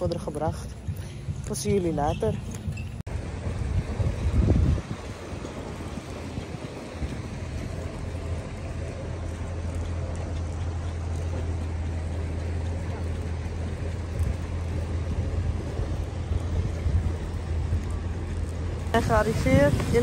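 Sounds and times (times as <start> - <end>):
city ambience: 0.0 - 20.0
motorboat engines humming: 0.0 - 20.0.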